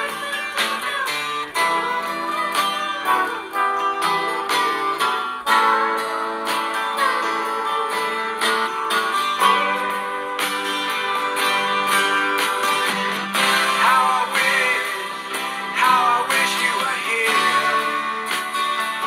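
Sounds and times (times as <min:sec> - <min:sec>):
guitar playing chords: 0:00.0 - 0:19.0.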